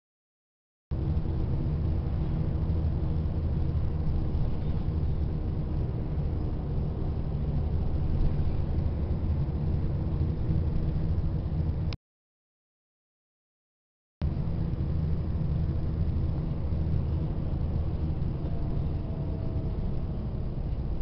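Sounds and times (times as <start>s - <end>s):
engine and road noise: 0.9s - 12.0s, 14.2s - 21.0s
faint constant drone: 1.0s - 12.0s, 14.2s - 21.0s.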